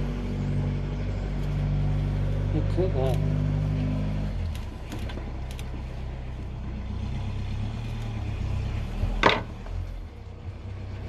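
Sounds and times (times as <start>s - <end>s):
idling engine hum: 0.0s - 11.0s.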